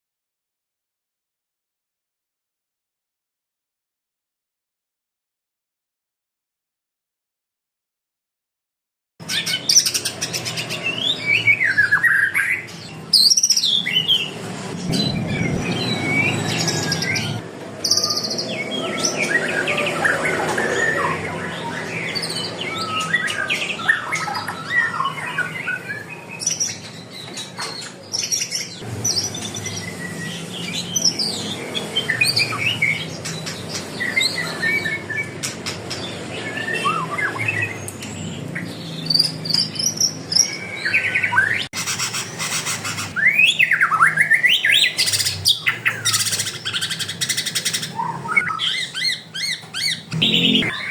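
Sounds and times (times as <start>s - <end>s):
songbirds chirping and whistling: 9.2s - 50.9s.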